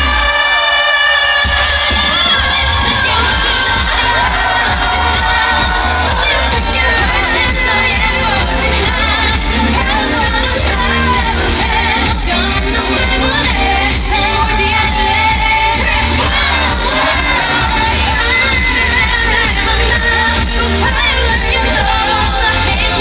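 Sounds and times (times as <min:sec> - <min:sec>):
pop band backing track: 0:00.0 - 0:23.0
woman singing with vibrato: 0:00.0 - 0:23.0.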